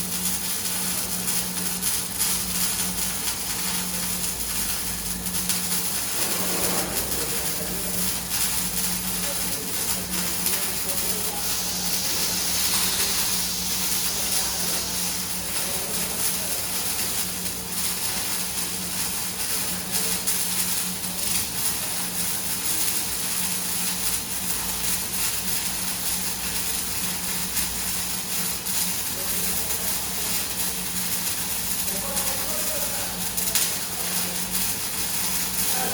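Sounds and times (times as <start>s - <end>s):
welding arc crackling hiss: 0.0s - 35.9s.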